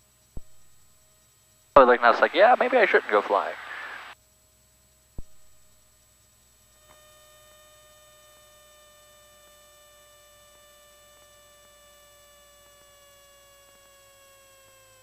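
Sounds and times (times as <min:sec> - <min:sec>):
faint electrical whine: 0:00.0 - 0:15.0.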